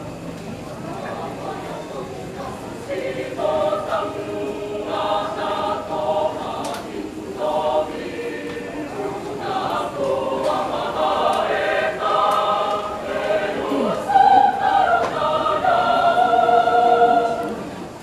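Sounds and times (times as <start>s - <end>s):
church choir singing: 1.1s - 18.0s.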